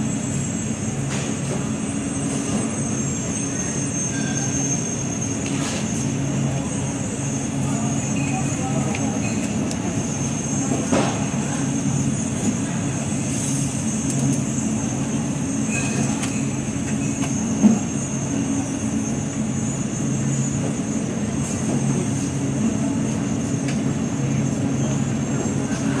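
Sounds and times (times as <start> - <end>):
low mechanical drone: 0.0 - 26.0
thin high whine: 0.0 - 26.0.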